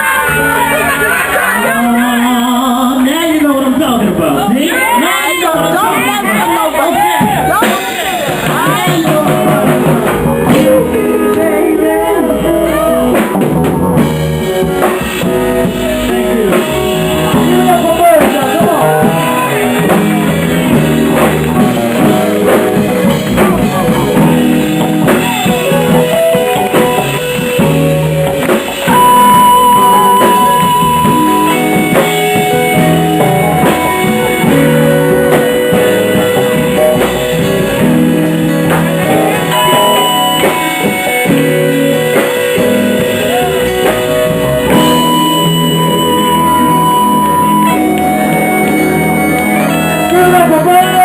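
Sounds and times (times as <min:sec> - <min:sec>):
drum kit: 0:00.0 - 0:51.0
electric guitar: 0:00.0 - 0:51.0
soul band playing slow song: 0:00.0 - 0:51.0.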